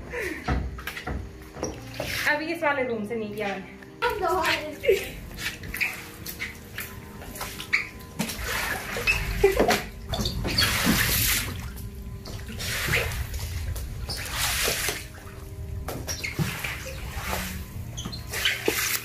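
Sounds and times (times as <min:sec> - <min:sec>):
wet swishing floor wiper strokes: 0:01.6 - 0:02.4, 0:03.4 - 0:19.0.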